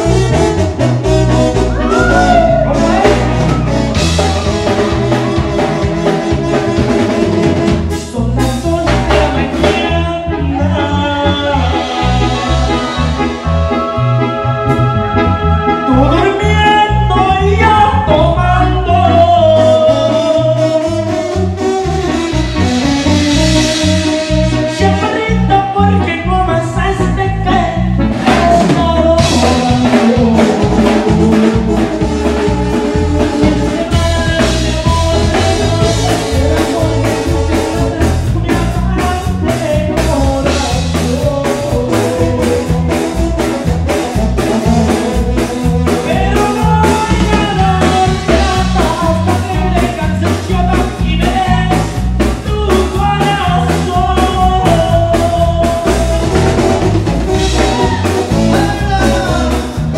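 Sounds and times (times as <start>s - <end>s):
drum kit and bass guitar: 0.0s - 59.9s
keyboard: 0.0s - 59.9s
live band playing: 0.0s - 59.9s
person singing: 0.0s - 59.9s.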